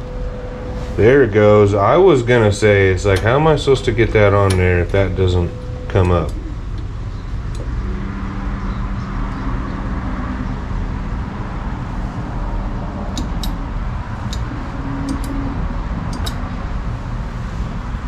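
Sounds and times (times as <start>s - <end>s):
faint motor hum: 0.0s - 18.0s.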